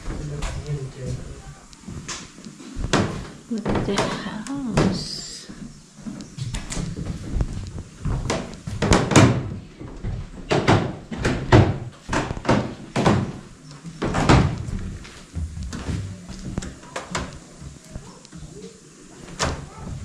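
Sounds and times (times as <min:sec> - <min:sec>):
footsteps on wooden floorboards: 0:00.0 - 0:20.0.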